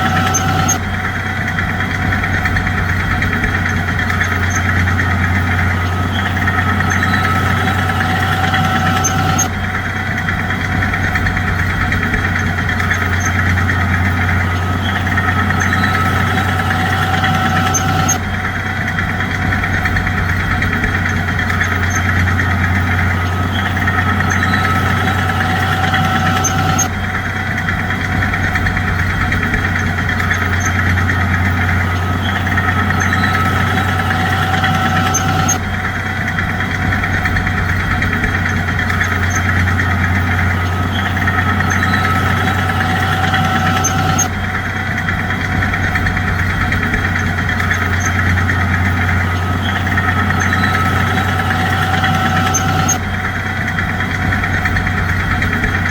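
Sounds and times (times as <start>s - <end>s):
diesel engine running steadily: 0.0s - 55.9s.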